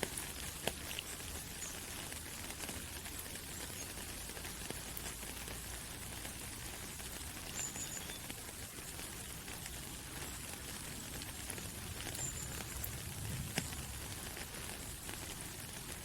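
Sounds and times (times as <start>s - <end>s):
drops ticking on leaves: 0.0s - 16.0s
rain falling through trees: 0.0s - 16.0s.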